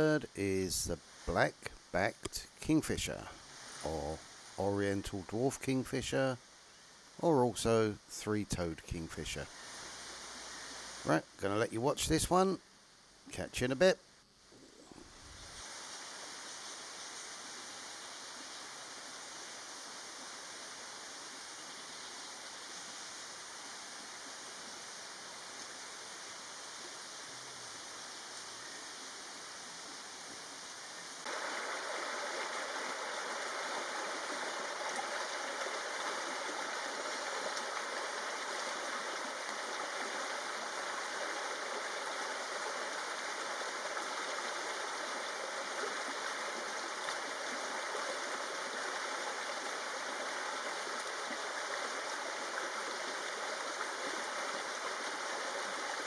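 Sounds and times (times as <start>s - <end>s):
running stream water: 0.0s - 14.0s, 14.8s - 56.0s.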